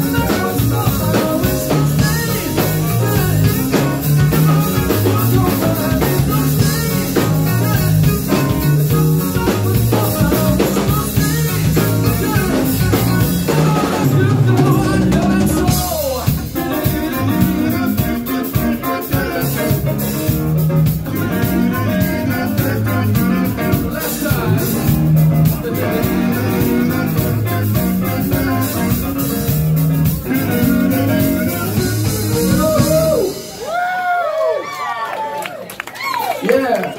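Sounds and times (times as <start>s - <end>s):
man singing: 0.0s - 33.5s
live rock band playing: 0.0s - 34.5s.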